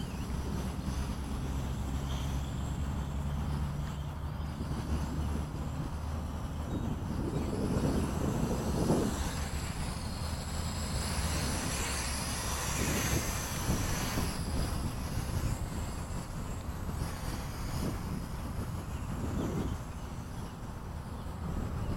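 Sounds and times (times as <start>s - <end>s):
model plane motors whining: 0.0s - 21.9s
wind rumble on microphone: 0.0s - 21.9s.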